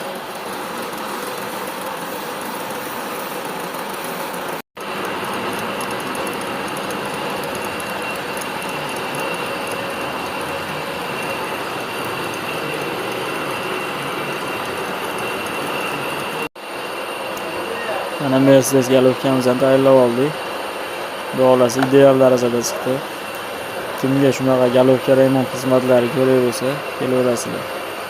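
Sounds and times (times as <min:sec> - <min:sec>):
machine shop machinery running: 0:00.0 - 0:28.0.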